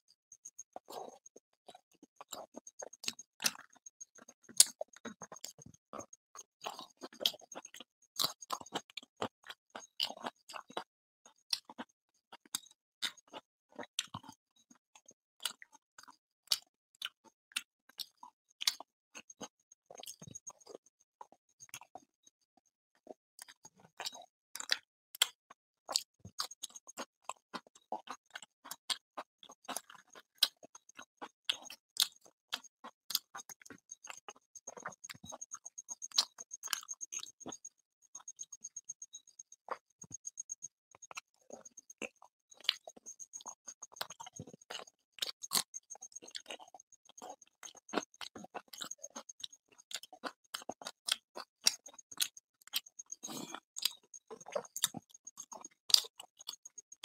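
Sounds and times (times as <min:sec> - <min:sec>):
chewing and lip smacking: 0:00.4 - 0:22.1, 0:22.9 - 0:57.0.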